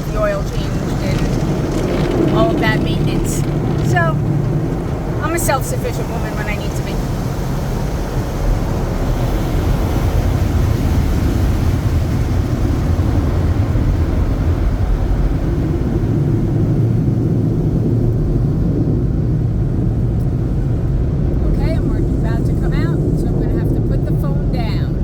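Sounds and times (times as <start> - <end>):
car wash machinery rumbling: 0.0 - 25.0.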